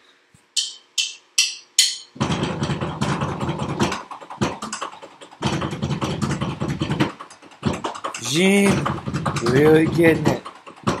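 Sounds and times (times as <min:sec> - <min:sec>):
sticks clattering on drum pads: 0:00.6 - 0:11.0.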